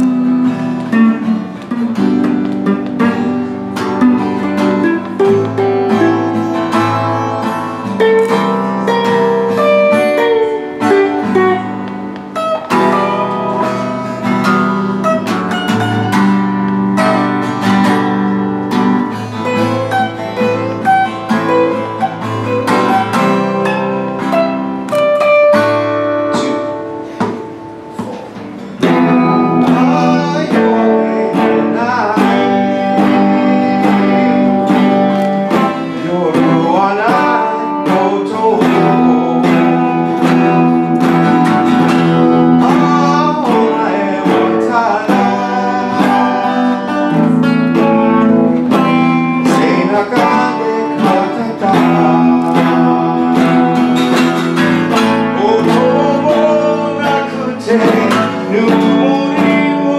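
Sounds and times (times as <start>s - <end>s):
man singing: 0.0s - 17.3s, 26.0s - 27.4s, 28.0s - 59.9s
electric guitar: 0.0s - 59.9s
strummed acoustic guitar: 0.0s - 59.9s.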